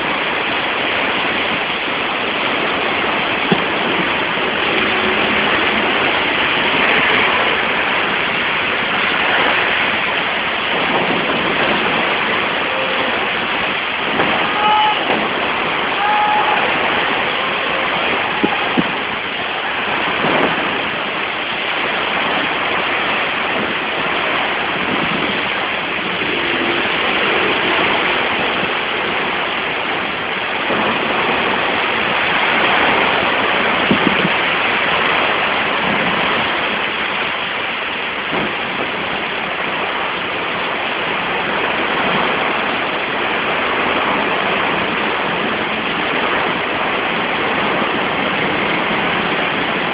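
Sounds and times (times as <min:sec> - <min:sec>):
heavy wind-driven rain: 0:00.0 - 0:49.9.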